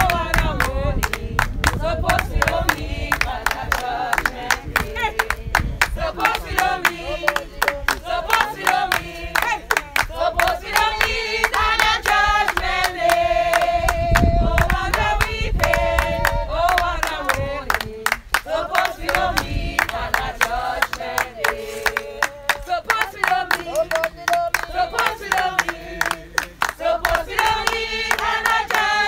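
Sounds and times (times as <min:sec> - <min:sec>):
group of people singing: 0:00.0 - 0:29.0
rhythmic hand-clapping: 0:00.0 - 0:29.0.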